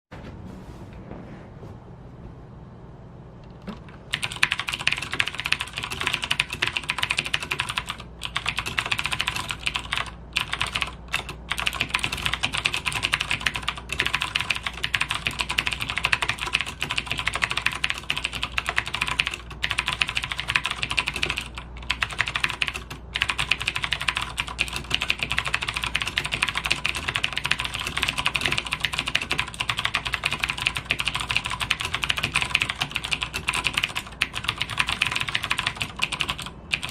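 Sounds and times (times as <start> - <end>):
mechanical keyboard typing: 3.7 - 36.9.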